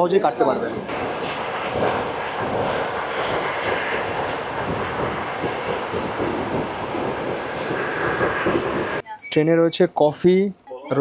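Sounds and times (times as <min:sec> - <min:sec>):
train wheels on rails: 0:00.8 - 0:09.8.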